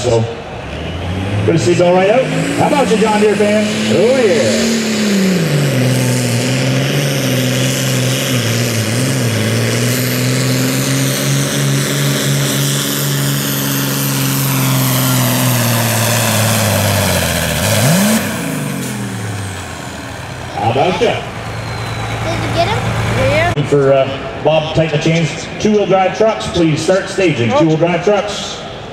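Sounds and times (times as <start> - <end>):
diesel tractor engine at full throttle: 0.0 - 28.9.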